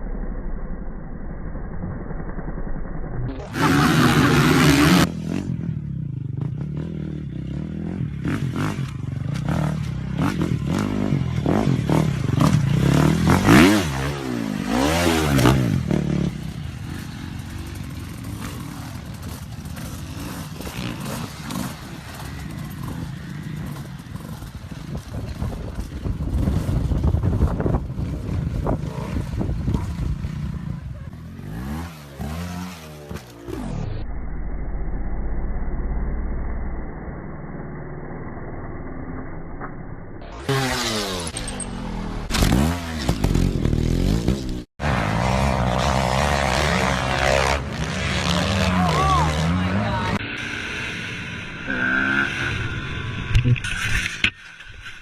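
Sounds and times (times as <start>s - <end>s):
dirt bike engines revving: 3.3s - 33.9s, 40.3s - 55.0s.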